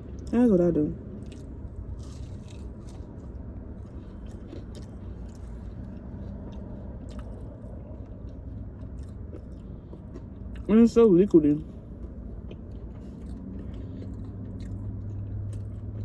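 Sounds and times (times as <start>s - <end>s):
person chewing food: 0.0s - 0.4s, 1.1s - 10.8s, 11.5s - 16.0s
steady low hum: 0.0s - 16.0s.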